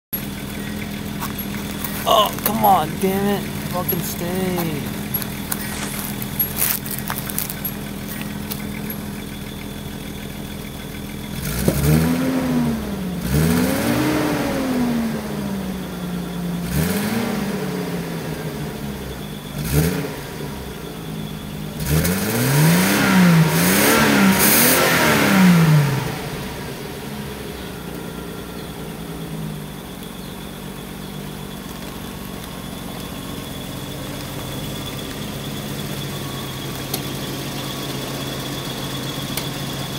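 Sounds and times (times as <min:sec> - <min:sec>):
car engine idling and revving: 0:00.2 - 0:39.9.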